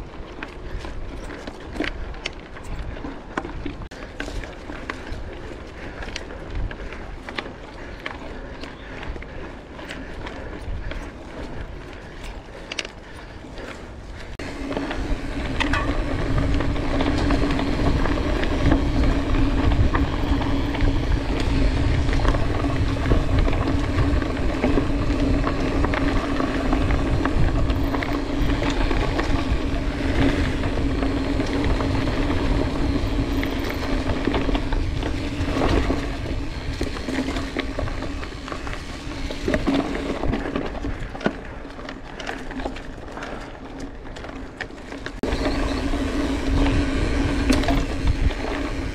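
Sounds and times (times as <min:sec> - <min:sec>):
wind rumble on microphone: 0:00.0 - 0:43.4, 0:45.1 - 0:48.9
bike tyres rolling: 0:00.0 - 0:48.9
small rattles and ticks: 0:00.0 - 0:48.9.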